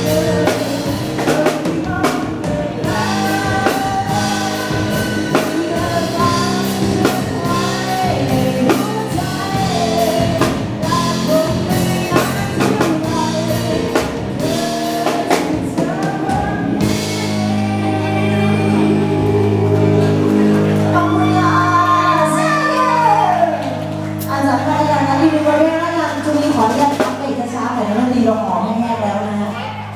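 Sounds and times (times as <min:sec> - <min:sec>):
drum kit: 0:00.0 - 0:27.6
lead vocal singing: 0:00.0 - 0:27.8
pop band playing: 0:00.0 - 0:29.7.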